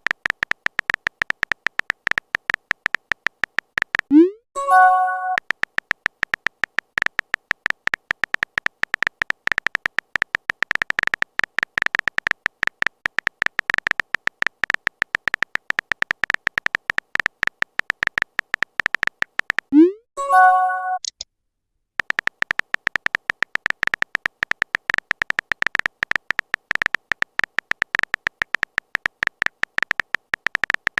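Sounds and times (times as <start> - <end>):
phone keyboard typing clicks: 0.0 - 19.8, 22.0 - 30.9.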